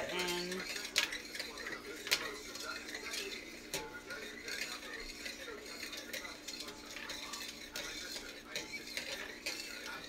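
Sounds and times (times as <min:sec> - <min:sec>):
utensil clinking in metal pot: 0:00.0 - 0:10.0.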